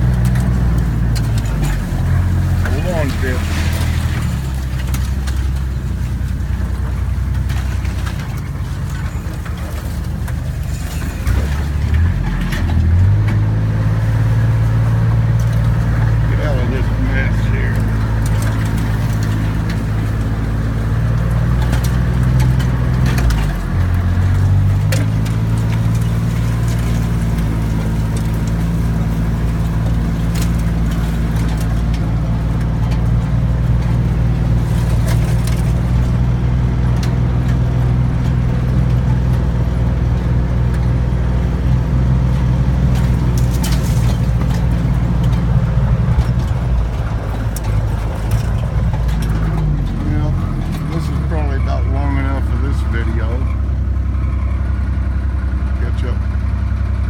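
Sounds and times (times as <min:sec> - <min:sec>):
vehicle engine running: 0:00.0 - 0:57.0
vehicle rattling and knocking: 0:00.0 - 0:57.0.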